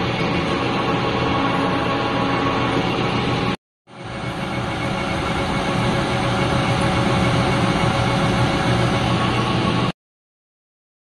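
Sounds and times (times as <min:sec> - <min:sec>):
metal lathe whirring: 0:00.0 - 0:09.9.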